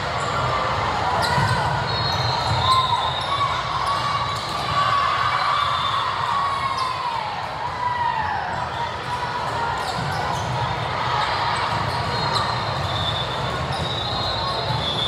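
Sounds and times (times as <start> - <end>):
voices echoing in hall: 0.0 - 15.0.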